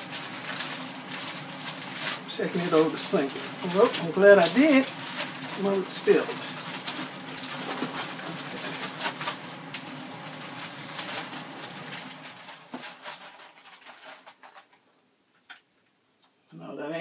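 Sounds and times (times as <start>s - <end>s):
plastic bag crinkling rustle: 0.0s - 14.9s.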